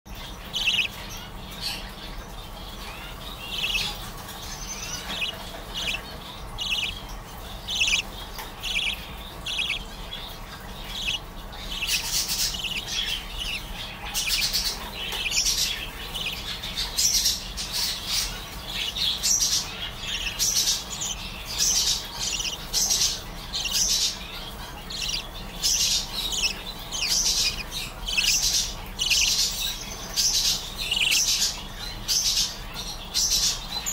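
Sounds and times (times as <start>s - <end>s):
budgerigar chick chirping: 0.1s - 33.9s.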